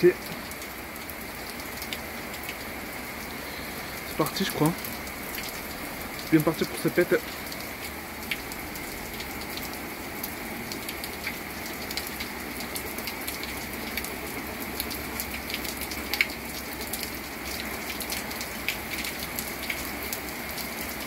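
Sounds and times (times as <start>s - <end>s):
rain falling: 0.0s - 21.0s
raindrops ticking close by: 0.0s - 21.0s.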